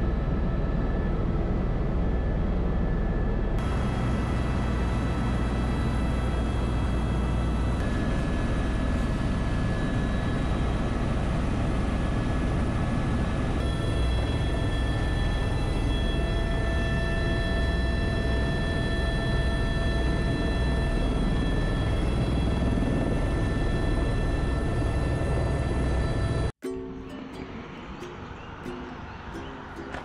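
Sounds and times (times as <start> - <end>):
helicopter turbine and rotor: 0.0 - 26.6.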